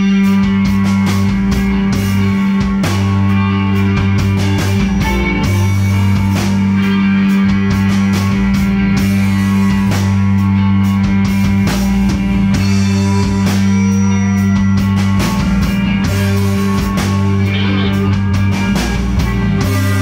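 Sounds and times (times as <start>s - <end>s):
drum kit: 0.0s - 20.0s
electric guitars: 0.0s - 20.0s
held low notes: 0.0s - 20.0s.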